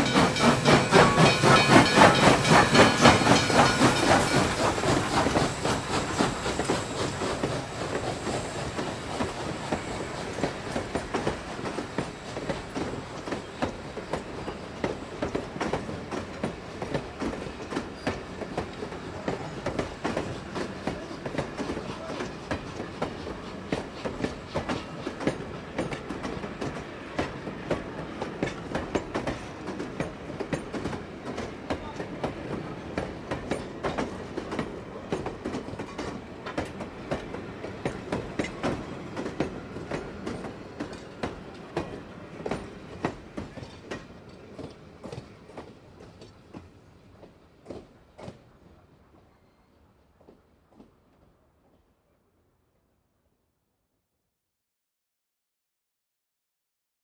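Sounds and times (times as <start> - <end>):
train wheels clattering on rails: 0.0 - 51.3.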